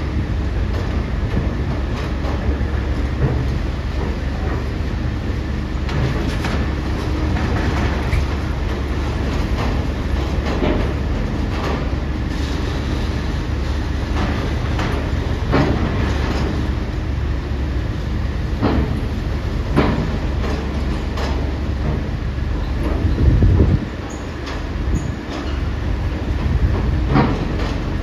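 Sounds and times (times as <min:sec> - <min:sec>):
heavy vehicles rumbling: 0:00.0 - 0:28.0.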